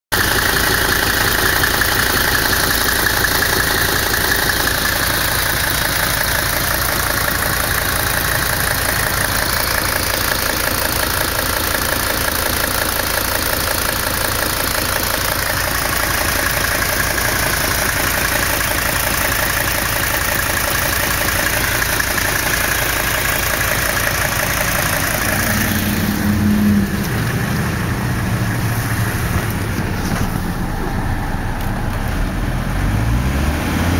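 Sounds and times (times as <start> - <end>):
diesel engine running with knock: 0.1 - 33.0.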